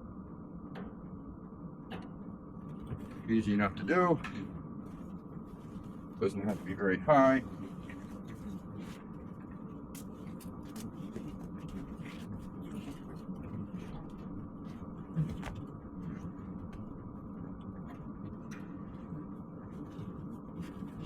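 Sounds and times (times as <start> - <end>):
diesel heater humming and ticking: 0.0 - 21.0.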